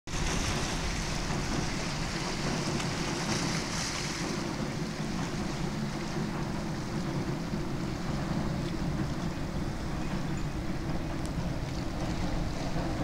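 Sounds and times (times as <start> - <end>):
sea noise: 0.1 - 13.0.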